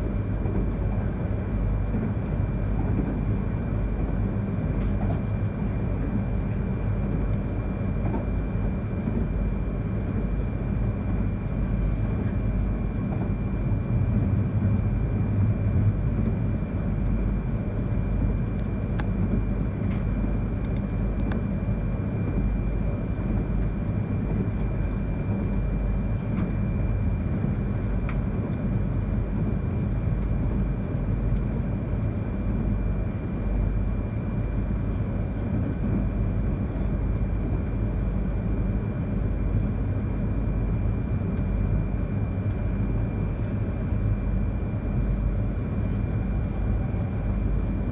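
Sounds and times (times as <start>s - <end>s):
train running gear rumble: 0.0s - 47.9s.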